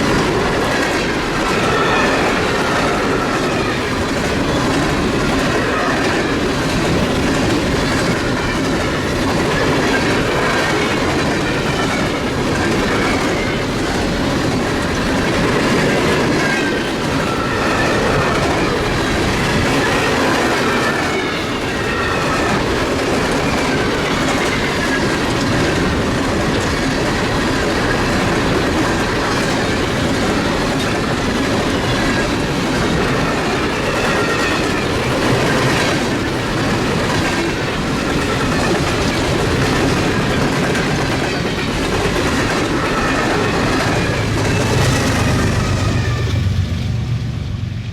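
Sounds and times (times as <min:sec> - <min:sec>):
train wheels clattering over rail joints: 0:00.0 - 0:46.4.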